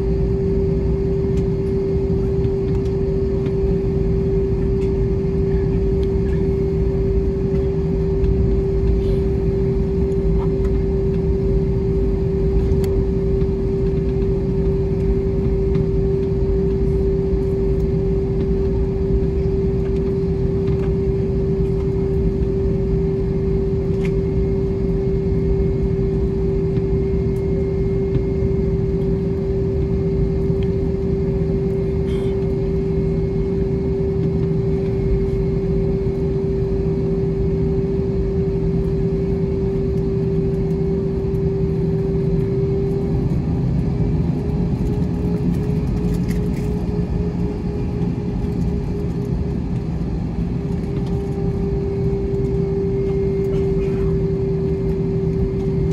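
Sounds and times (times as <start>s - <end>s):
airplane cabin rumble and drone: 0.0s - 55.9s.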